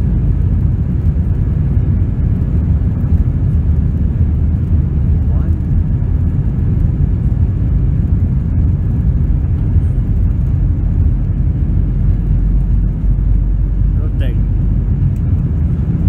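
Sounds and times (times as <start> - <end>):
jet engines at takeoff thrust: 0.0 - 16.0
wheels rumbling on runway: 0.0 - 16.0.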